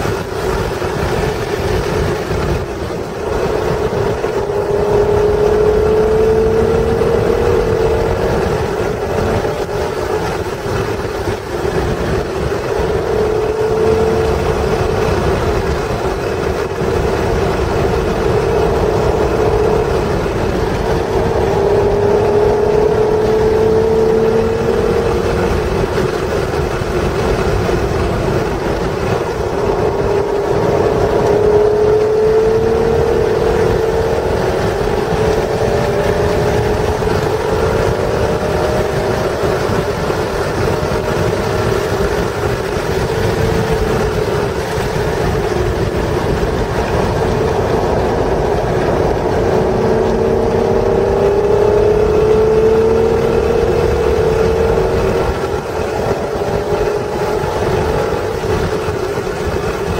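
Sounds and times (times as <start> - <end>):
car engine accelerating: 0.0 - 59.9
road and wind noise in cabin: 0.0 - 59.9.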